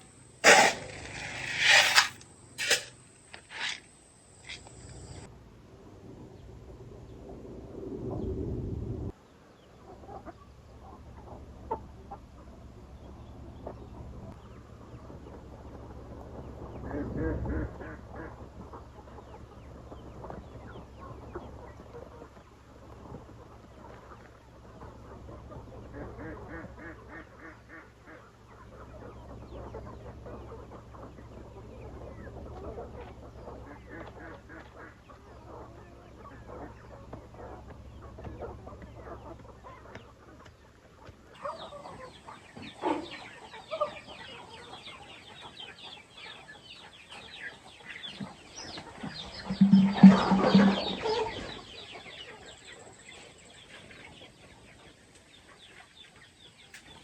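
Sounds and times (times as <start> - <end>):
chickens clucking and calling: 9.6 - 57.0.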